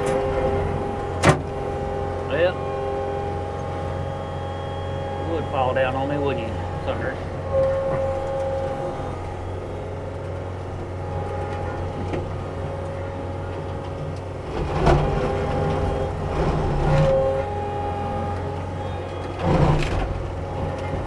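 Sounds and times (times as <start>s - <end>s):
heavy machine diesel engine: 0.0s - 21.0s
hydraulic whine: 0.0s - 21.0s
rough grinding noise: 0.0s - 21.0s.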